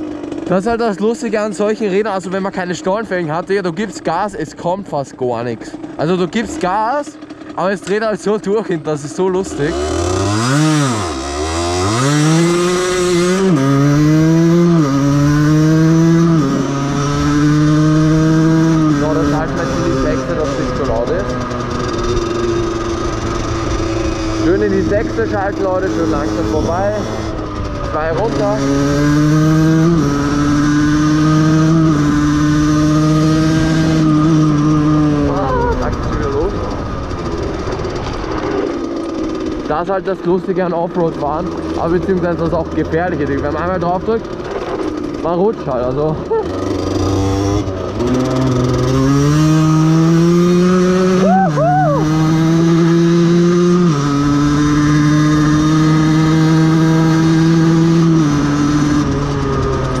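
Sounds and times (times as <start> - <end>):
moped engine running: 0.0 - 60.0.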